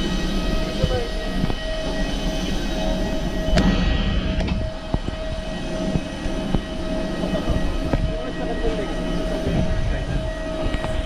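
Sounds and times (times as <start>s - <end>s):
engine rumbling with whine: 0.0s - 11.0s.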